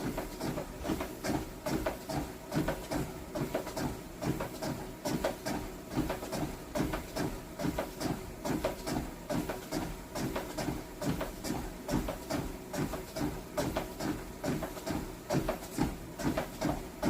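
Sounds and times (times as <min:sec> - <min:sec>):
rhythmic thudding and clicking: 0:00.0 - 0:17.0.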